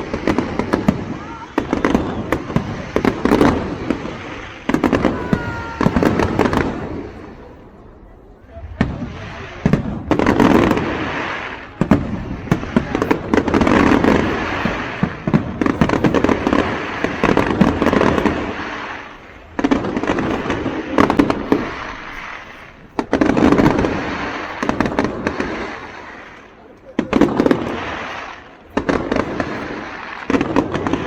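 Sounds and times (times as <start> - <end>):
fireworks bangs: 0.0 - 31.0
fireworks crackling: 0.0 - 31.0.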